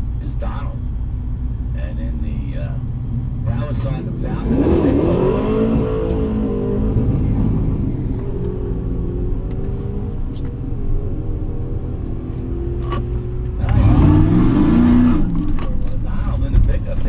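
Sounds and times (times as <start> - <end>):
engines rumbling: 0.0 - 17.0
engine revving: 3.0 - 17.0.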